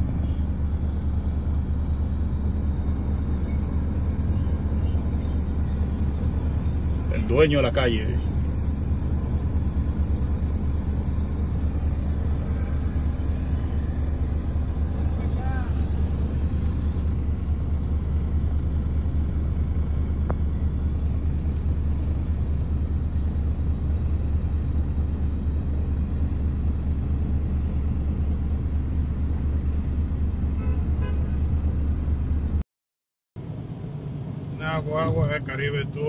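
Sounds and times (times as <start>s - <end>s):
vehicle rumble from inside: 0.0s - 32.6s, 33.4s - 36.0s.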